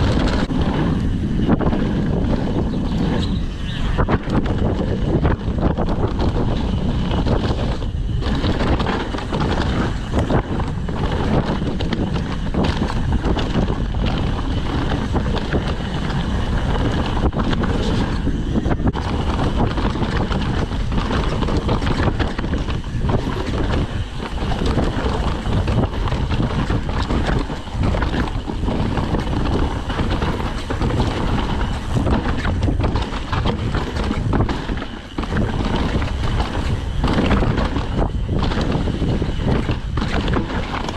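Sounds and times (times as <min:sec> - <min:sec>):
bike tyres and frame rattling: 0:00.0 - 0:40.9
wind rushing over microphone: 0:00.0 - 0:40.9.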